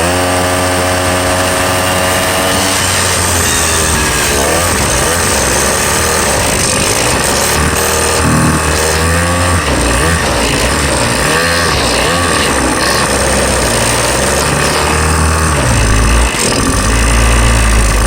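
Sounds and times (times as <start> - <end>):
small petrol engine revving: 0.0 - 18.0
wind and road noise: 0.0 - 18.0.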